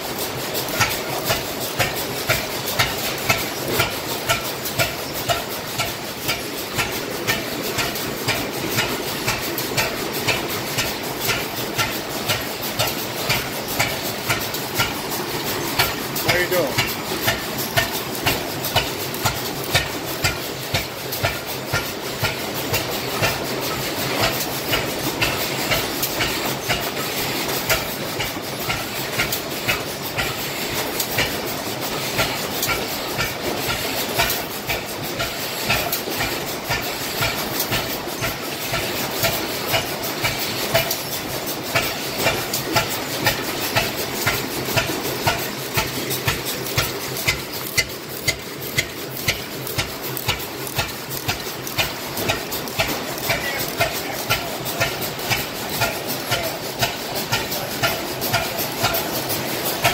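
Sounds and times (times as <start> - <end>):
engine knocks: 0.0 - 59.9
stationary gas engines clattering: 0.0 - 59.9.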